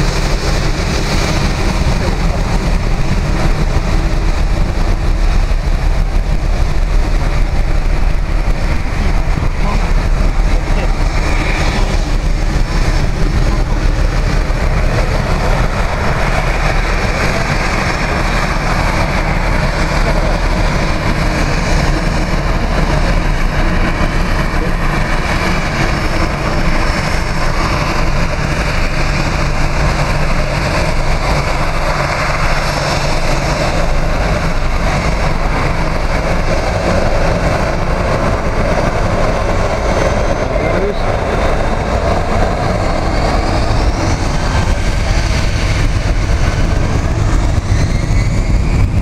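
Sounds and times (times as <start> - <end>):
aircraft engines running: 0.0 - 49.0.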